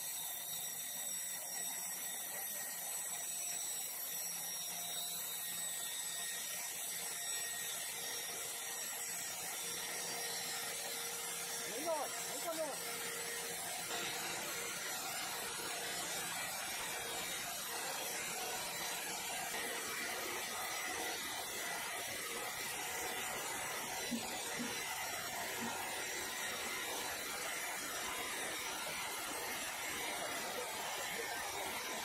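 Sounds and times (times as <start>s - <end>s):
band sawmill running: 0.0s - 32.0s.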